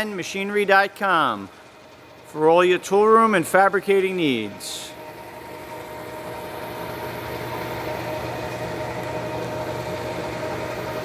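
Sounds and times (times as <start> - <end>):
lathe motor and gear hum: 0.0 - 11.0.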